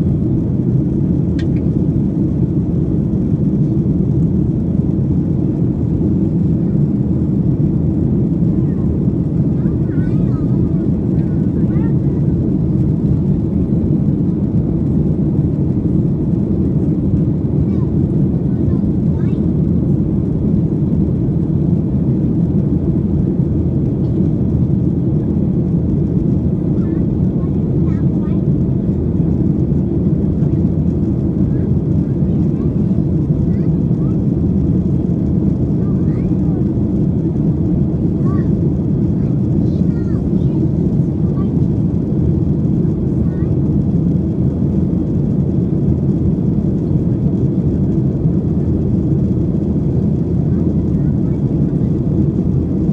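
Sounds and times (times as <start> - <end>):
jet engines in cabin: 0.0 - 52.9.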